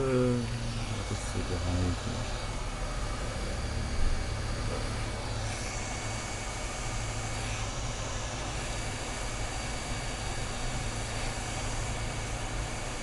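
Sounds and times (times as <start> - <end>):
hot-air station blowing air: 0.0 - 13.0.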